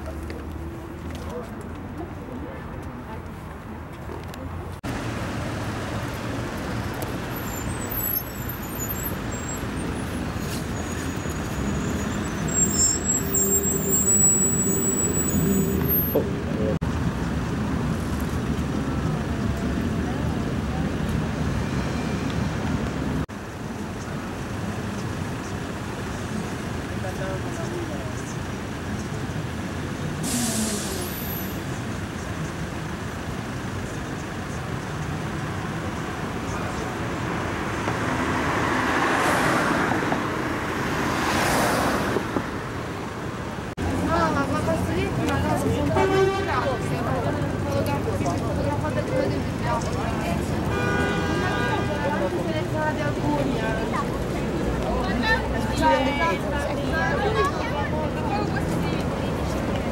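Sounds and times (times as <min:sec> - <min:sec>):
road traffic rumbling: 0:00.0 - 0:59.9
cars driving past: 0:03.8 - 0:59.9.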